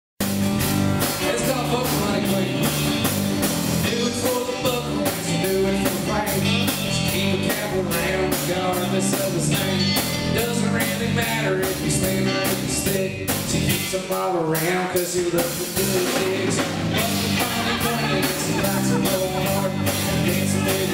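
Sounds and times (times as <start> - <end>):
acoustic guitar: 0.2 - 20.9
drum kit beat: 0.2 - 20.9
electric bass: 0.2 - 20.9
electric guitar: 0.2 - 20.9.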